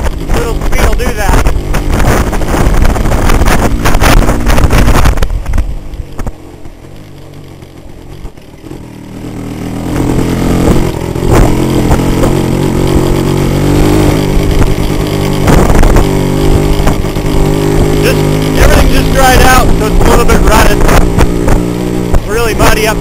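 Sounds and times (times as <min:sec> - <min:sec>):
wind on microphone: 0:00.0 - 0:06.8, 0:09.3 - 0:23.0
two-stroke motorcycle engine: 0:00.0 - 0:23.0.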